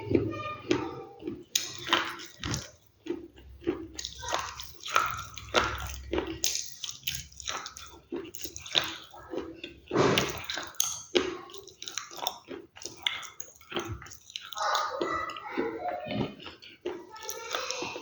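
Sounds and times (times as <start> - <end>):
wet mouth sounds: 0.0 - 18.0
crunchy food chewing: 0.1 - 18.0.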